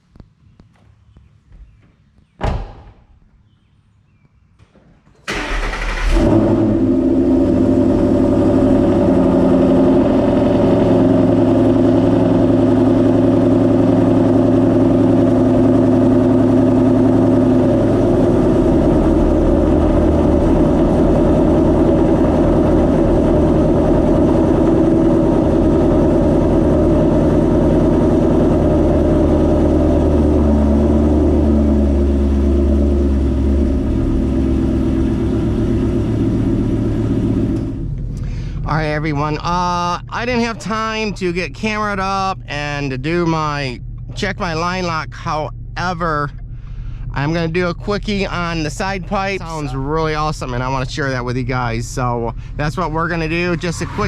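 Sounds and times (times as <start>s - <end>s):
car engine cold start: 5.2s - 54.0s
car engine fast idle: 5.3s - 54.0s.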